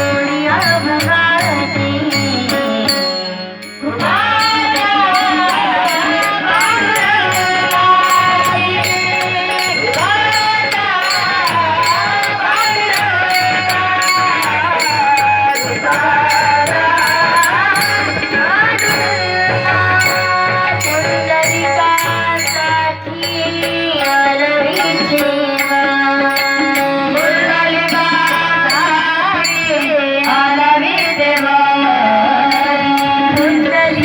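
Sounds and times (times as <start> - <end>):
sharp percussion beat: 0.0 - 34.0.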